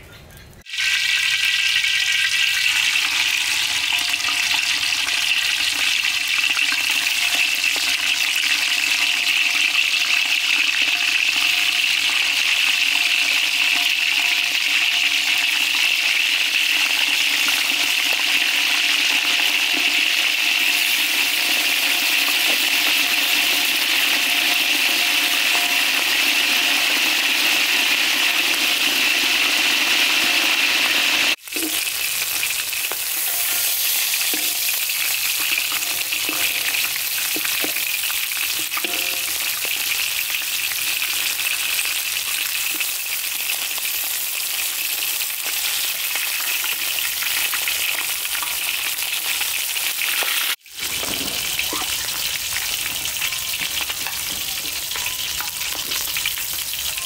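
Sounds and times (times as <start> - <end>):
frogs frying in hot oil: 0.5 - 57.0.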